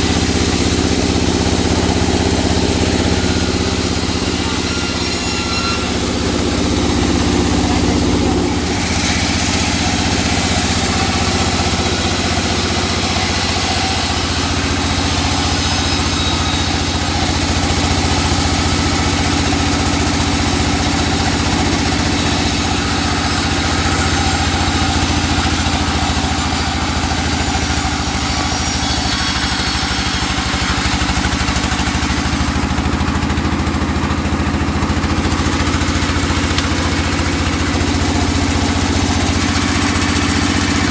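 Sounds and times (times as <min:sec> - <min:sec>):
sawing machine engine idling: 0:00.0 - 0:40.9.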